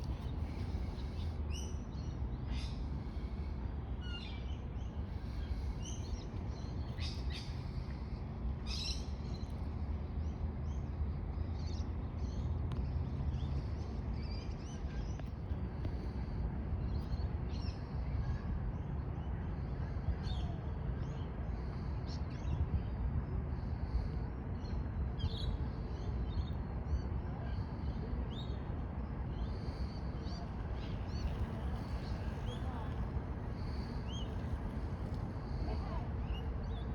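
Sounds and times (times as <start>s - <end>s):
steady low rumble: 0.0s - 36.9s.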